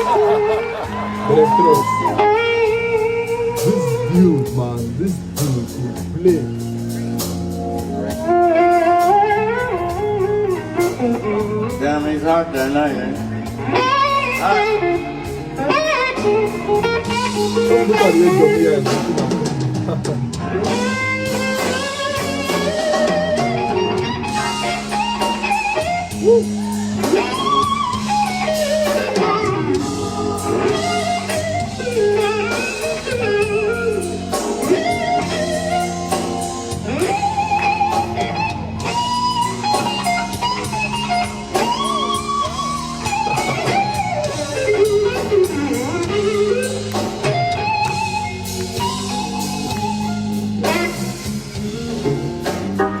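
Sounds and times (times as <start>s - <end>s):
electric slide guitar solo: 0.0s - 6.0s, 7.6s - 53.0s
bass: 0.0s - 53.0s
keyboard chords: 0.0s - 53.0s.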